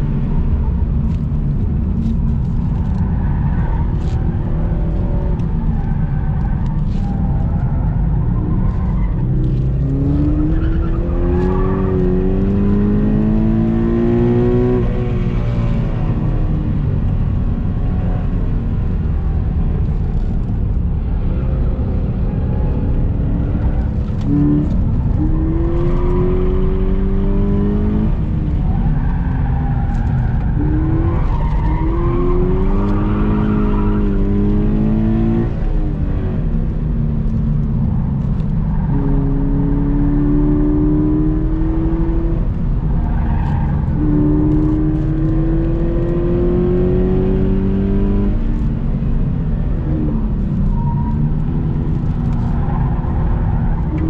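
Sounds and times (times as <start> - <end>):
car engine under load: 0.0 - 54.0
road and wind noise: 0.0 - 54.0.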